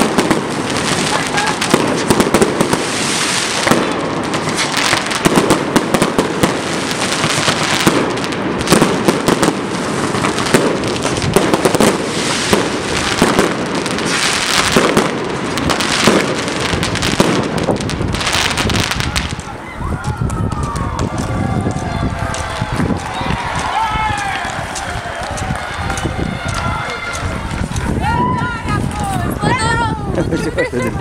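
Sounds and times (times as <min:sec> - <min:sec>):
fireworks crackling: 0:00.0 - 0:31.0
fireworks launching and bursting: 0:00.0 - 0:31.0.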